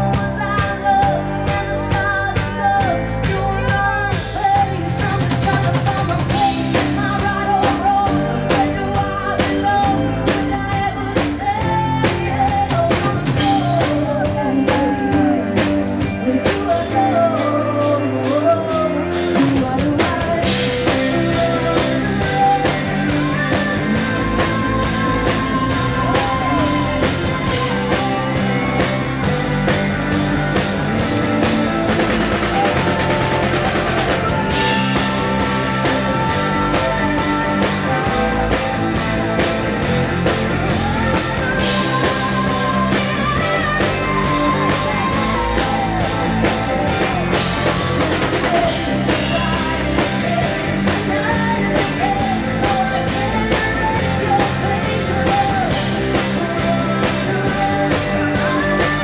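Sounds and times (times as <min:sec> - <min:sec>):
rock band playing: 0:00.0 - 0:59.0
woman singing lead vocal: 0:00.0 - 0:59.0.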